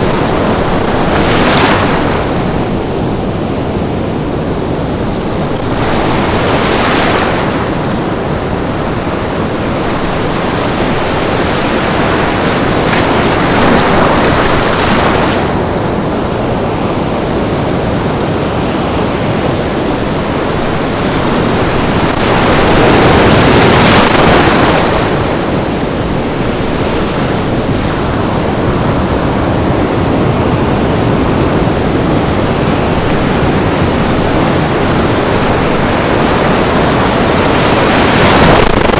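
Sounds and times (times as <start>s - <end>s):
sea surf washing onto beach: 0.0s - 38.9s.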